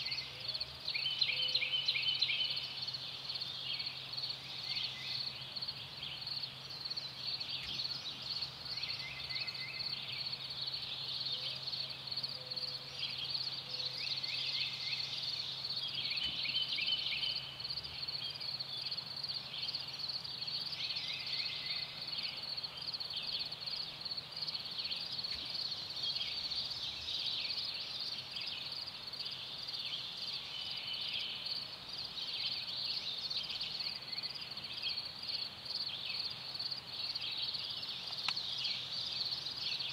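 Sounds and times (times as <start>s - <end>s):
birds singing: 0.0s - 39.9s
chorus of calling insects: 0.0s - 39.9s.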